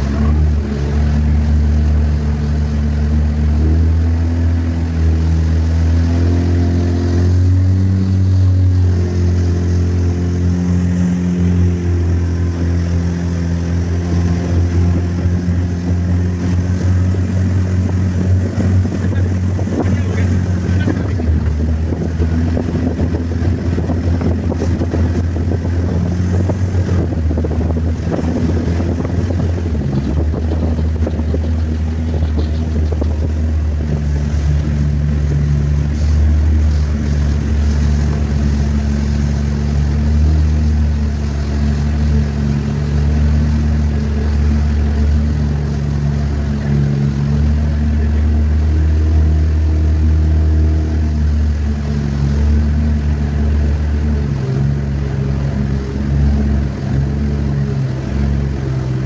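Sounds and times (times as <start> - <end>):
motorboat engine running: 0.0 - 59.0
water rushing: 0.0 - 59.0
wind: 0.0 - 59.0.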